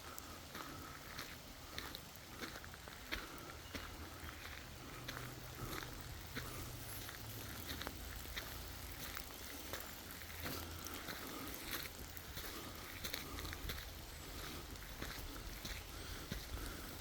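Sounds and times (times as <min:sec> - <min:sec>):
small clicks and crackles: 0:01.7 - 0:17.0.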